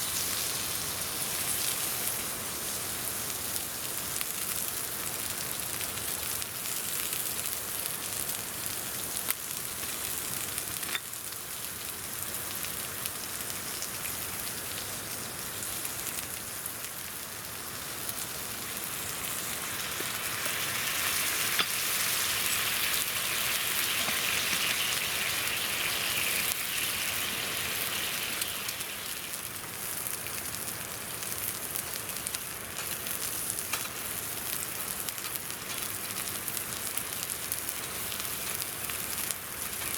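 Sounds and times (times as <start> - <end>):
beef sizzling on a grill: 0.0 - 39.9.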